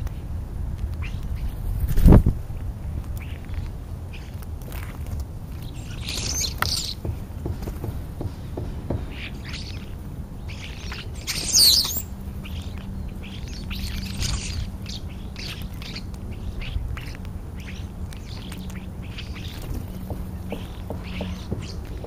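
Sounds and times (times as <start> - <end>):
starlings chirping: 1.0 - 2.1, 3.1 - 22.0.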